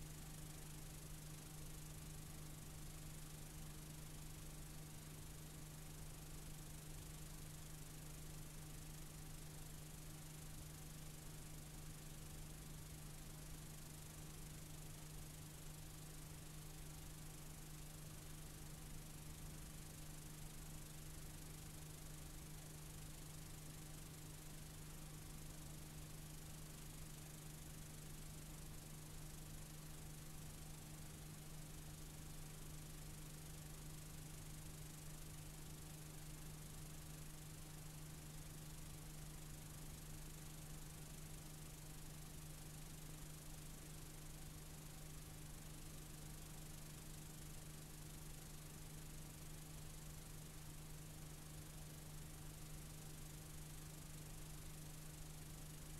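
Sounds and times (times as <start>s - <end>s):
tape hiss: 0.0s - 46.9s.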